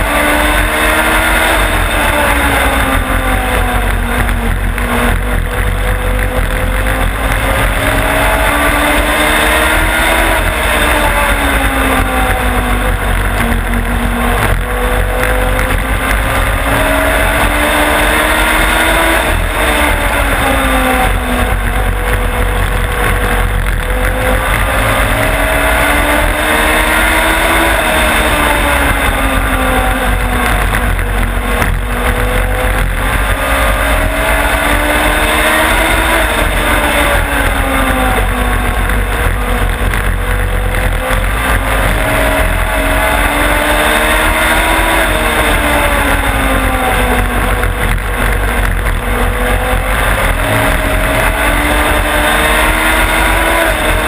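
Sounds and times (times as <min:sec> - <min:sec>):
motorcycle engine revving: 0:00.0 - 0:54.0
wind and track rumble: 0:00.0 - 0:54.0.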